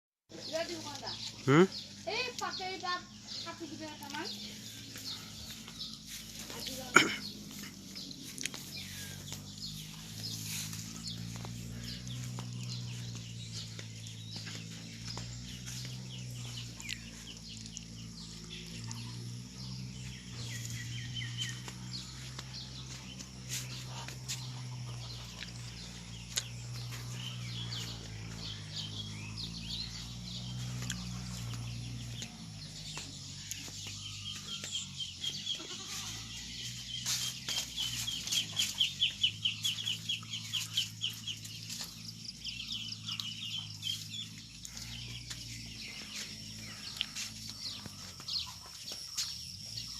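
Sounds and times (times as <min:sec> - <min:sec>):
chickens calling: 0:00.5 - 0:49.9.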